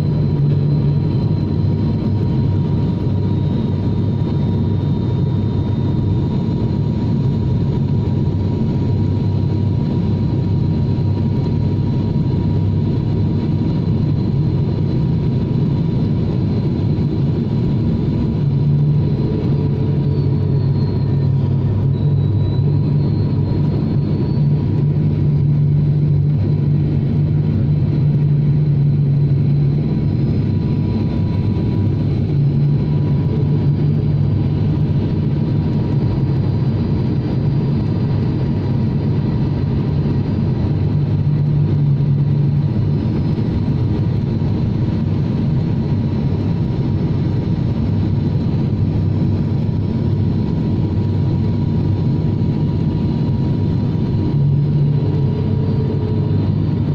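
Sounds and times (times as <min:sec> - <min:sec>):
airplane cabin drone: 0:00.0 - 0:56.9.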